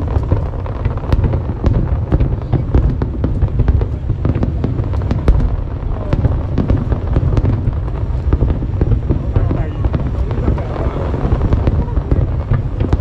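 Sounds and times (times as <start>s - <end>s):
fireworks cracks and bangs: 0.0s - 13.0s
low rumble of shell bursts: 0.0s - 13.0s.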